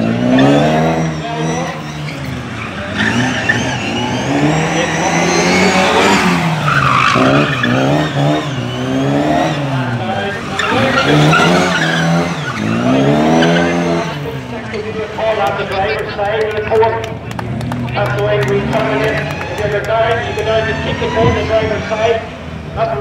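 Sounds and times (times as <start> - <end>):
car engine revving: 0.0 - 23.0
tyres squealing: 0.1 - 15.7, 18.6 - 22.3.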